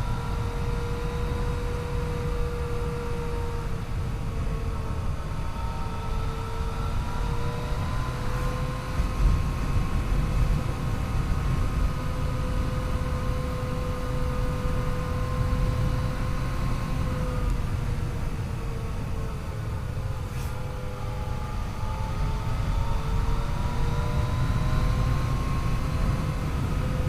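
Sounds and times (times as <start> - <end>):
wind rumbling on microphone: 0.0 - 27.0
motorcycle engine running: 4.3 - 27.0.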